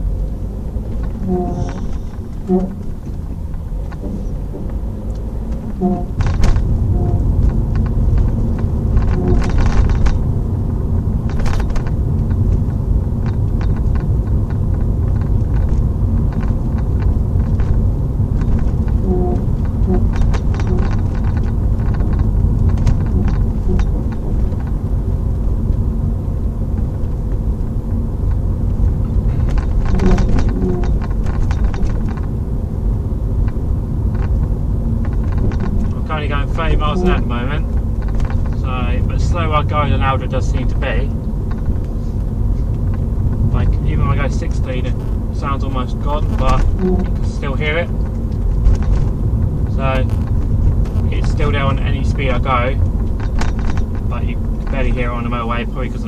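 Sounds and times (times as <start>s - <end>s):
car road and engine rumble: 0.0s - 56.0s
creaks and rattles in car: 0.0s - 56.0s.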